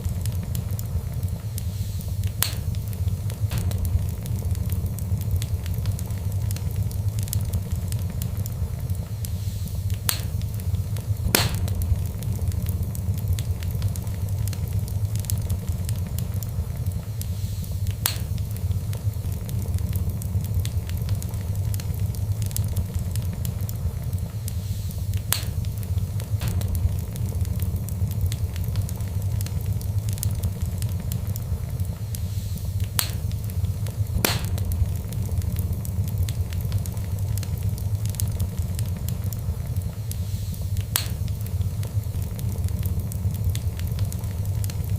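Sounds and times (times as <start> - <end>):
sharp fire pops: 0.0 - 44.9
steady low rumble: 0.0 - 44.9
wood fire crackling: 0.0 - 44.9.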